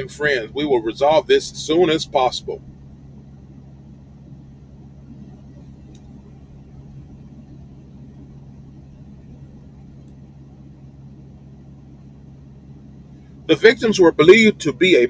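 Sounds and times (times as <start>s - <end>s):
low background hum and rumble: 0.0s - 15.0s.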